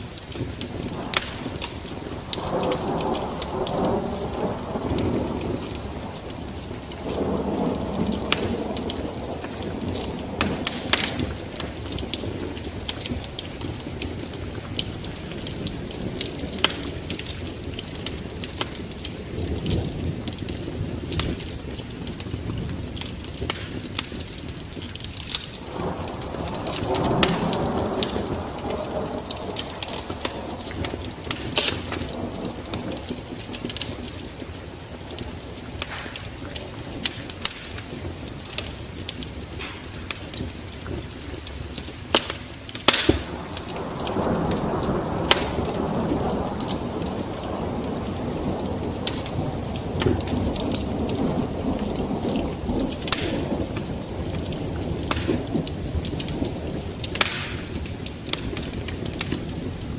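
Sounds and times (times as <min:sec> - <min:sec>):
low rushing of flames: 0:00.0 - 0:59.9
sharp fire pops: 0:00.0 - 0:59.9.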